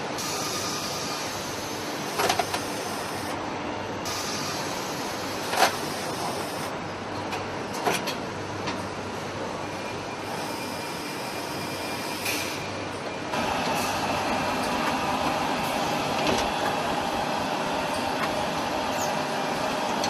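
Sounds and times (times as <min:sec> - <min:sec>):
production line machinery noise: 0:00.0 - 0:20.0.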